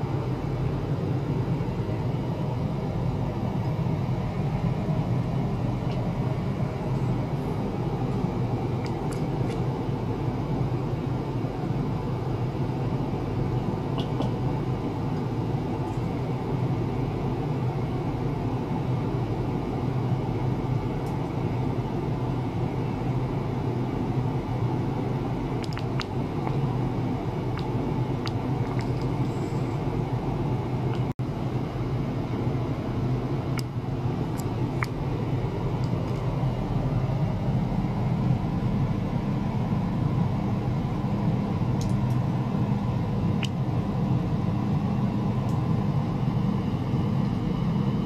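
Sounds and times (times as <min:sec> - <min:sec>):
low hum with hiss: 0:00.0 - 0:48.0.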